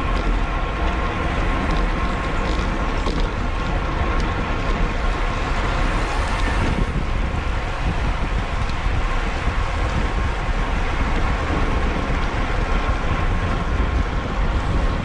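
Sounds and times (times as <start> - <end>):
bicycle tyres and chain humming: 0.0 - 15.0
wind rushing over microphone: 0.0 - 15.0.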